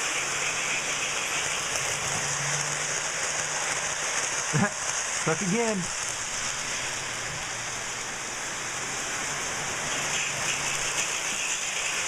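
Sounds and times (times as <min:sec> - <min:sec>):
toy steam locomotive hiss: 0:00.0 - 0:12.0.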